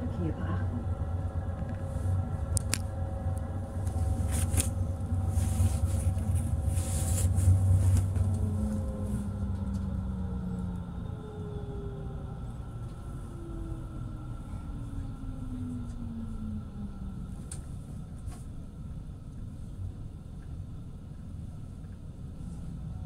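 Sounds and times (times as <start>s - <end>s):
tram motor whine: 0.0s - 23.0s
tram rumbling on rails: 0.0s - 23.0s.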